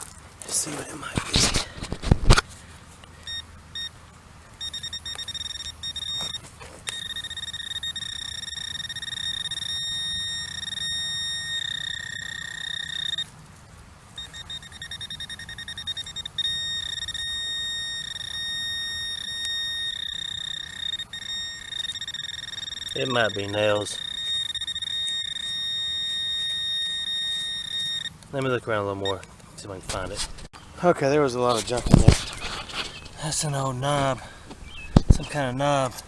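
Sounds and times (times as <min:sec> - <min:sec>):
metal detector high-pitched tone: 0:04.6 - 0:13.3, 0:14.2 - 0:30.5, 0:31.4 - 0:35.9.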